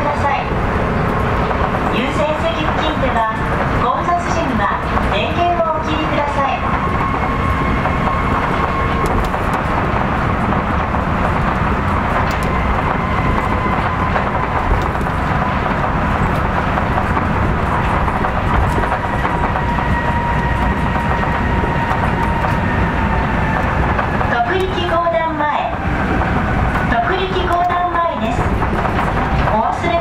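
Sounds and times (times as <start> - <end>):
tyres rumbling on a monorail beam: 0.0 - 30.0.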